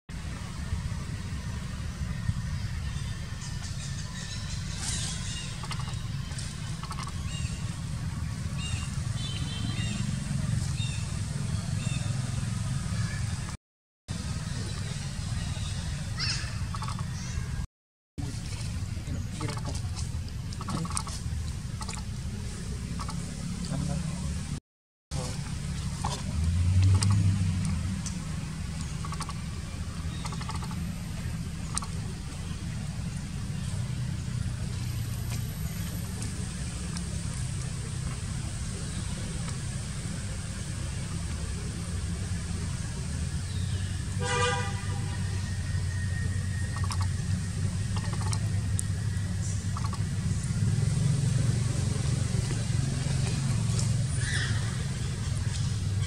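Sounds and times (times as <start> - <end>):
steady low rumble: 0.1 - 56.0.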